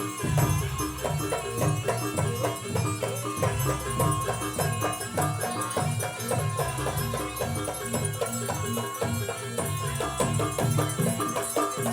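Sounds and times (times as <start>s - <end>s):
drums: 0.0s - 11.9s
gongs and metallophones: 0.0s - 11.9s.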